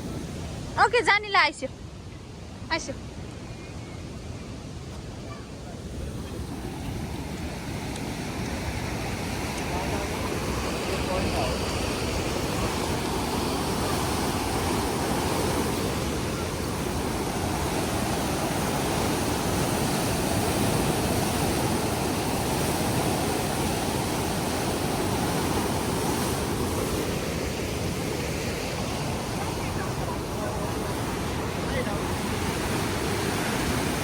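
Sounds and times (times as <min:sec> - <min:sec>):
roar of rushing water: 0:05.6 - 0:34.0.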